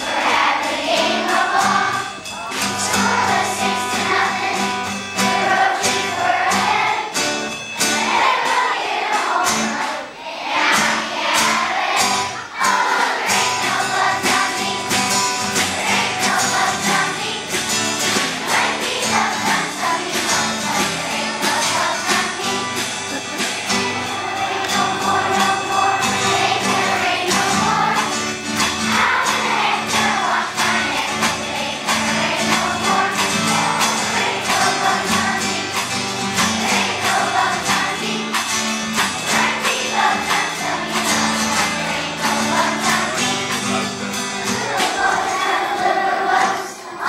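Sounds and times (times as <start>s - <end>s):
children singing: 0.0s - 47.0s
strummed guitar: 0.0s - 47.0s.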